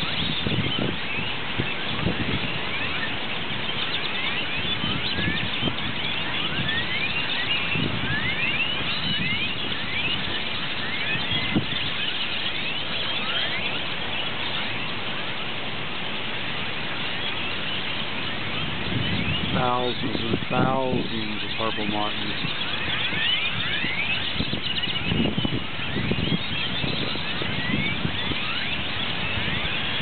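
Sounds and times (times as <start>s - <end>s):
birds chirping in a flock: 0.0s - 30.0s.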